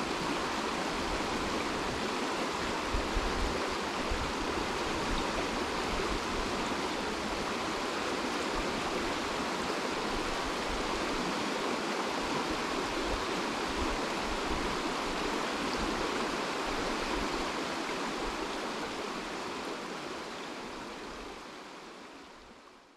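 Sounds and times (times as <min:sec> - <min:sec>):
running water: 0:00.0 - 0:22.8.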